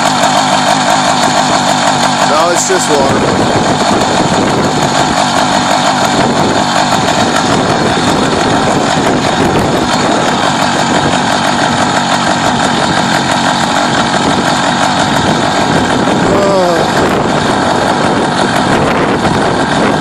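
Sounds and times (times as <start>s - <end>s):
small engine buzzing: 0.0s - 20.0s.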